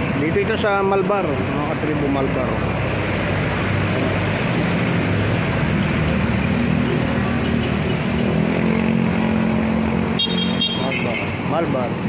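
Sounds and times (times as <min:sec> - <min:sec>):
motorcycle engines passing: 0:00.0 - 0:12.0
street traffic noise: 0:00.0 - 0:12.0.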